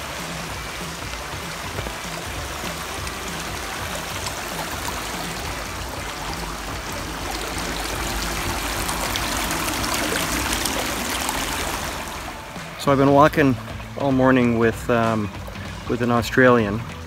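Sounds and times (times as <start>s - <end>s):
stream trickling over stones: 0.0s - 17.0s.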